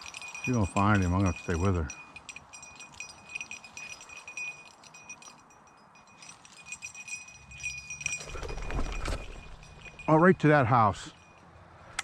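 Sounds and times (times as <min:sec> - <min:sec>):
collar bell jingling: 0:00.0 - 0:11.9.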